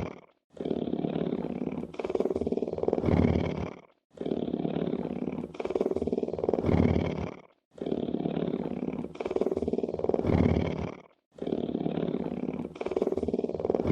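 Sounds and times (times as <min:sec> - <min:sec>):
big cat purring: 0:00.0 - 0:13.9.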